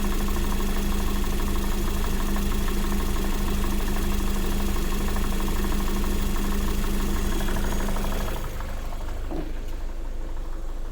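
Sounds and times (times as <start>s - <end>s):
rapid rhythmic engine knock: 0.0s - 10.9s.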